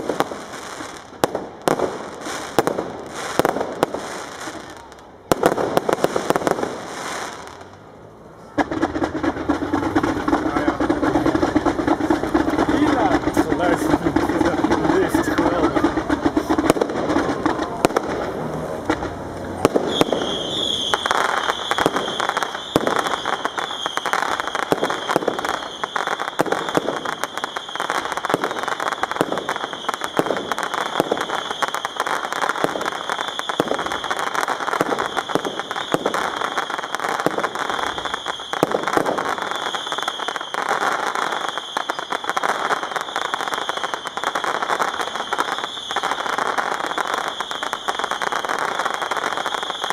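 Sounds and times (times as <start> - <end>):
fireworks crackling and popping: 0.0 - 49.9.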